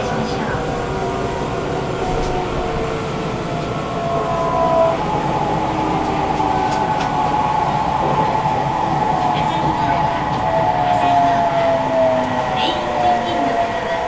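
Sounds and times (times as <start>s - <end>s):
train motor humming: 0.0s - 14.0s
train wheels rumbling on track: 0.0s - 14.0s.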